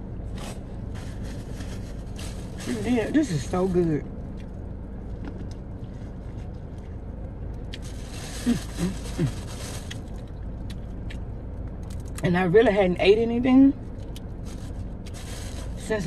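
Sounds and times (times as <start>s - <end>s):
low hum inside a car: 0.0s - 16.0s.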